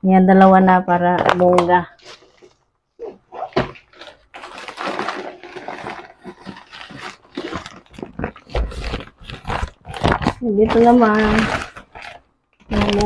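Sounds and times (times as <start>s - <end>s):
paper bag rustling and crinkling: 1.0s - 13.0s.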